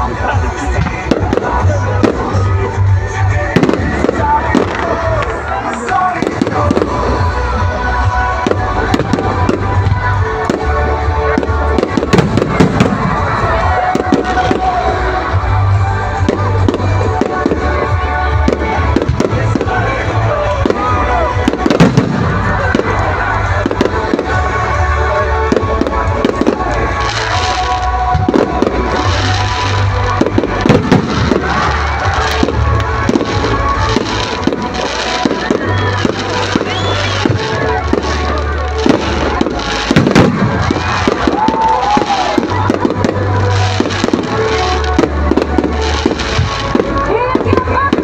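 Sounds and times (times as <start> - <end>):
fireworks bursting: 0.0 - 48.0
loud music with heavy bass: 0.0 - 48.0.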